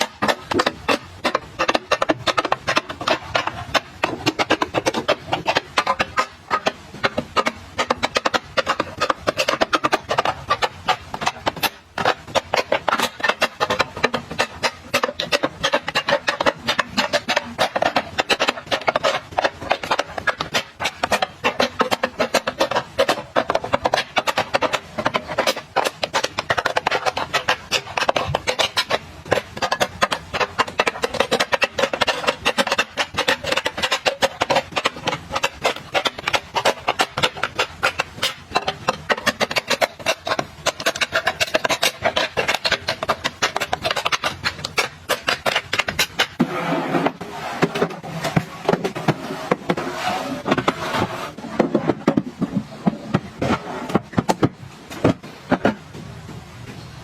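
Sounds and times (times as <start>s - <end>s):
rapid clicking of small hard objects: 0.0s - 55.9s.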